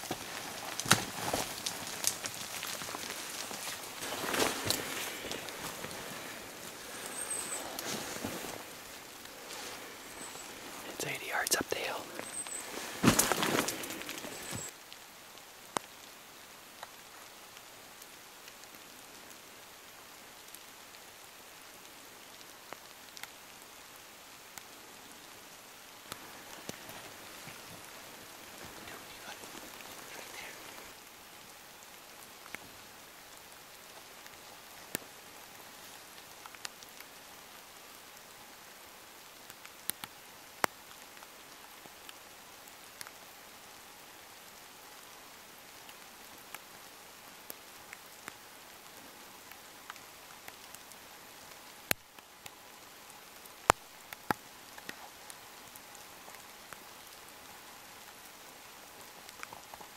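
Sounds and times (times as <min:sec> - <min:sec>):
light rain hissing: 0:00.0 - 0:59.9.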